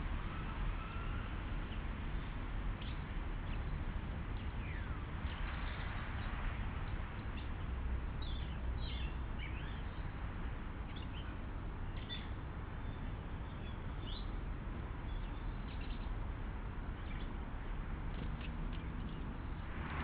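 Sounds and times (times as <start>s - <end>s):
small birds chirping: 1.6s - 10.2s, 10.8s - 19.6s.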